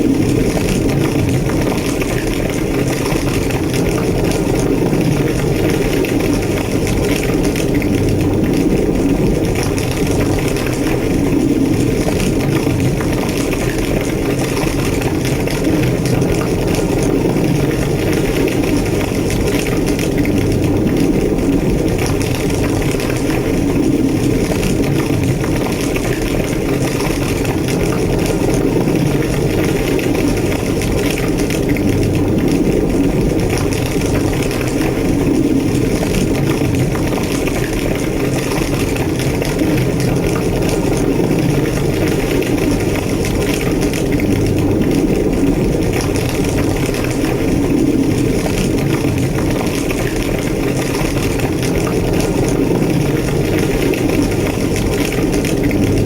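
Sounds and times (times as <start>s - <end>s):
fire roaring and crackling: 0.0s - 56.0s.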